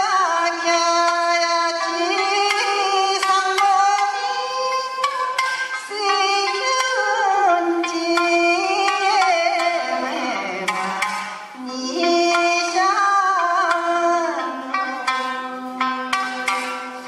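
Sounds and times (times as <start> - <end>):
plucked string instrument: 0.0 - 17.0
wavering sung melody: 1.9 - 16.2.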